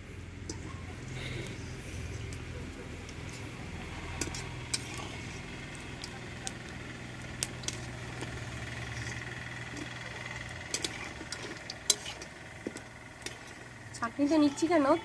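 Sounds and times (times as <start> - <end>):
low hum: 0.0 - 14.2
oil sizzling: 1.7 - 14.9.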